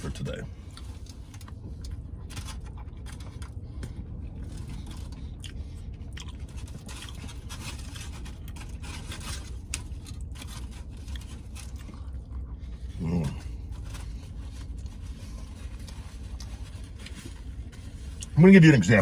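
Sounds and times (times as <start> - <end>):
low steady hum: 0.0 - 19.0
wet chewing: 0.6 - 18.3.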